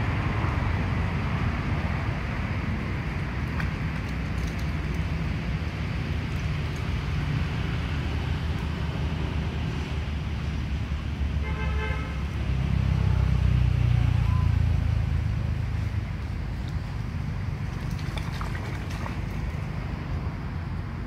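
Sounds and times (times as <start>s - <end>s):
road traffic rumble: 0.0s - 21.0s
vehicle passing: 0.0s - 21.0s.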